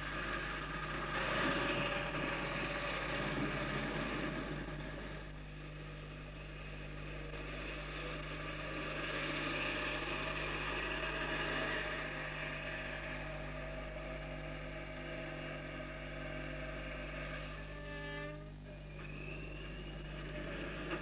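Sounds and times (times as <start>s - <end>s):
engine drone: 0.0s - 21.0s
low electrical hum: 0.0s - 21.0s.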